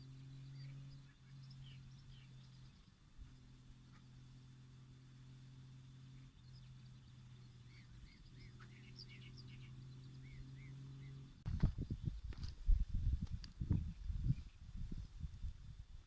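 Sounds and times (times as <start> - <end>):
small birds chirping: 0.0 - 15.4
steady low hum: 0.0 - 16.0.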